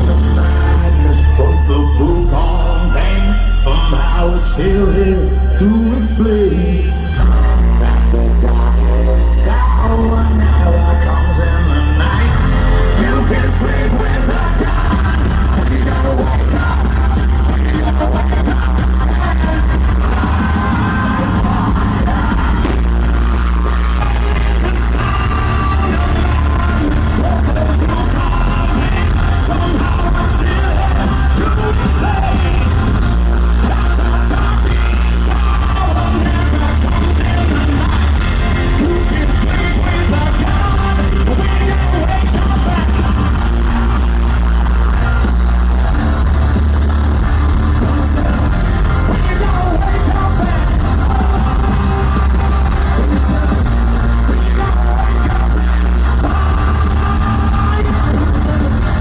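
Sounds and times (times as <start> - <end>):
person singing and shouting: 0.0 - 45.3, 47.6 - 59.0
distorted bass and drums: 0.0 - 59.0.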